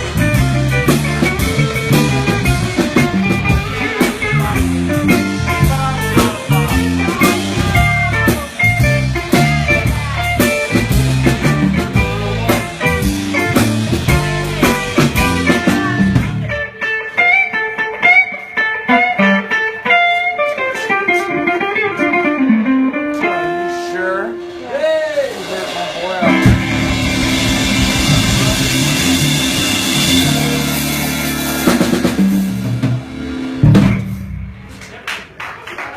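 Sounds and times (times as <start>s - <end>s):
bass and drums: 0.0s - 23.5s, 24.3s - 35.0s
electric guitar blues: 0.0s - 34.7s.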